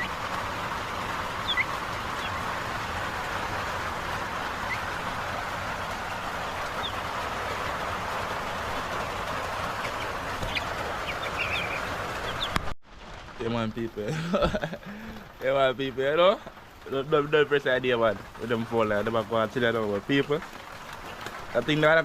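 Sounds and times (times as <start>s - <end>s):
chickens peeping: 0.0s - 12.7s, 16.5s - 22.0s
heavy rain: 0.0s - 22.0s.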